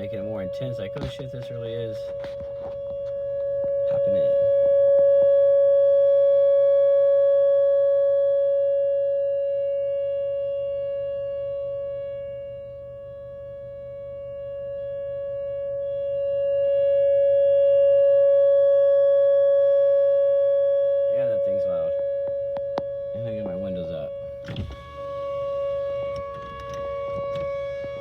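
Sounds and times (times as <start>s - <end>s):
tornado warning siren steady tone: 0.0s - 28.0s.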